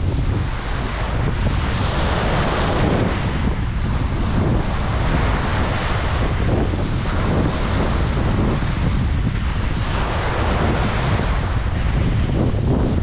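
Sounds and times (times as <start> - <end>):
ocean waves breaking on beach: 0.0 - 13.0
wind buffeting microphone: 0.0 - 13.0.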